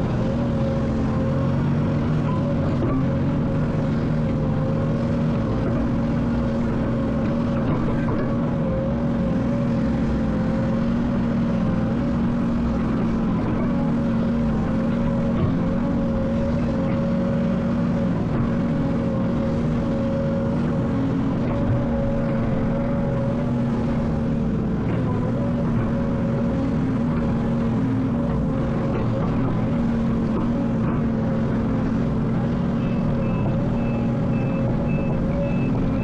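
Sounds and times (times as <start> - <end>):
excavator diesel engine drone: 0.0 - 36.0.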